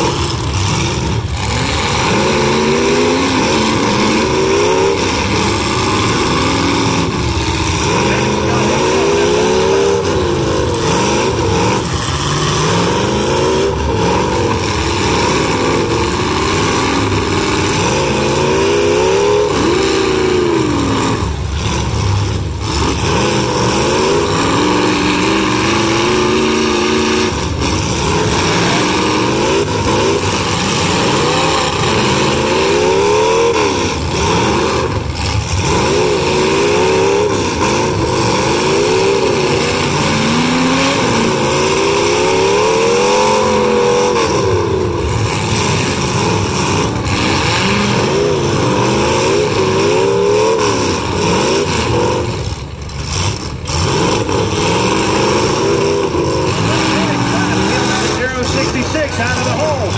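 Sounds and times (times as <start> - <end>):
car engines revving: 0.0 - 59.9
cars ramming: 0.0 - 59.9.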